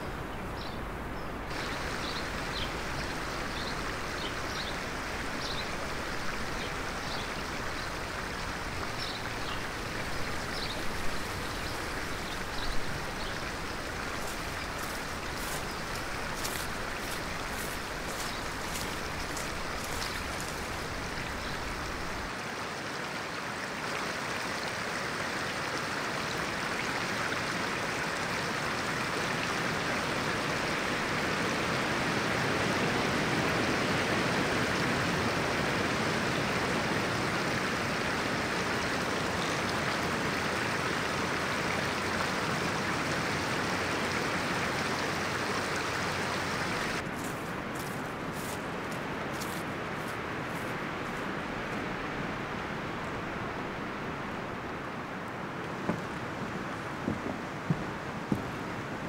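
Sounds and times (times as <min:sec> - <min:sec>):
stream running over stones: 0:00.0 - 0:59.0.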